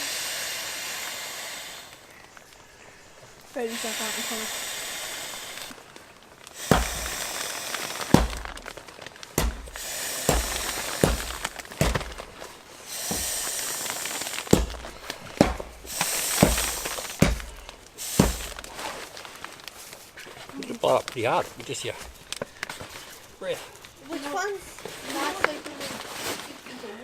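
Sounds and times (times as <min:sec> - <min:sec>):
breaths blowing up sleeping mat: 0:00.0 - 0:27.0.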